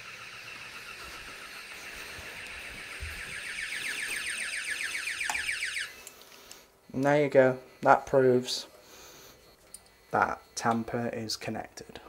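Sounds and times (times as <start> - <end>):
warbling burglar alarm: 0.0 - 12.0.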